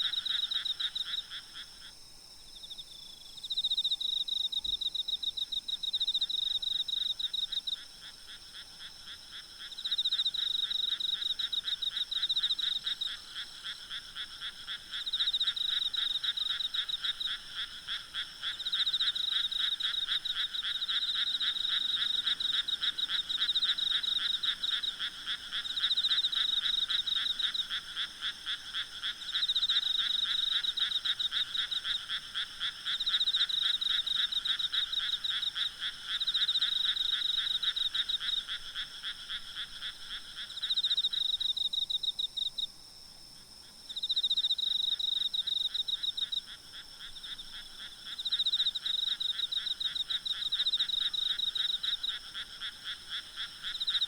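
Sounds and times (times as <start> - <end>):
frogs calling in pulsed trills: 0.0 - 54.0.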